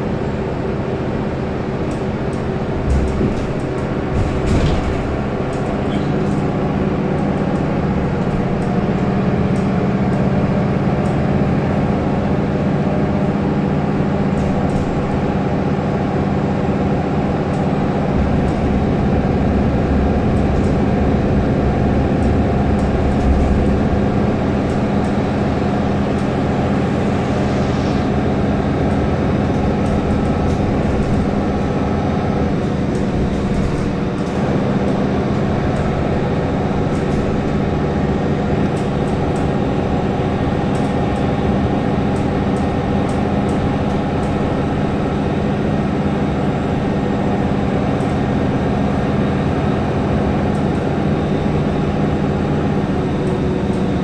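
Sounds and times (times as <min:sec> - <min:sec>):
bus engine drone: 0:00.0 - 0:54.0
interior rattles and clicks: 0:01.8 - 0:12.4, 0:13.1 - 0:27.9, 0:29.5 - 0:44.8, 0:46.3 - 0:54.0.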